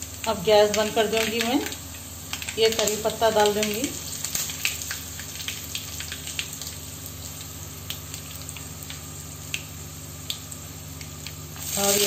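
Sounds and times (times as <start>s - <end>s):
oil sizzling in frying pan: 0.0s - 12.0s
small pops and crackles: 0.2s - 6.8s, 7.4s - 11.4s.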